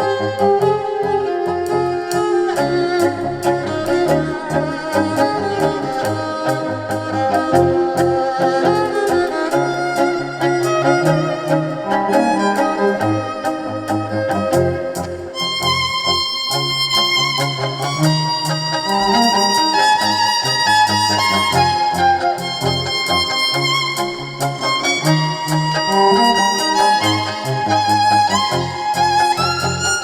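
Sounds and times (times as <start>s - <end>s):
live band instrumental music: 0.2s - 30.0s.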